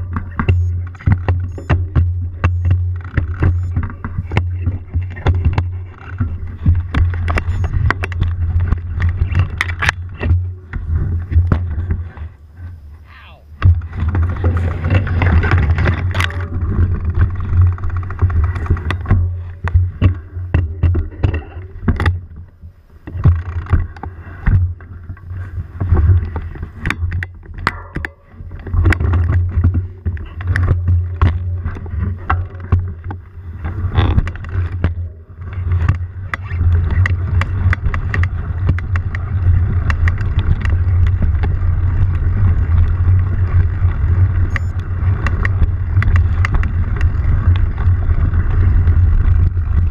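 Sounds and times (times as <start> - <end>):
twigs and branches crackling: 0.0 - 12.8, 13.6 - 49.9
low rumble of camera rig: 0.0 - 49.9.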